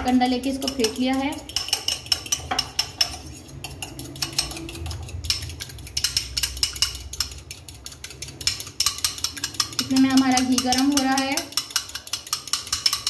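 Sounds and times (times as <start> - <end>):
fork whisking egg in glass bowl: 0.0 - 13.0.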